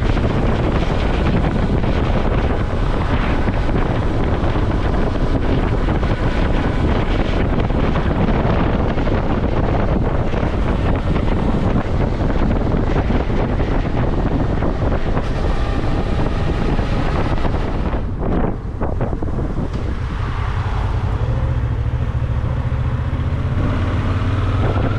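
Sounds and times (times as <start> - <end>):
motorcycle engine: 0.0 - 24.9
road noise: 0.0 - 24.9
wind rushing over microphone: 0.0 - 24.9.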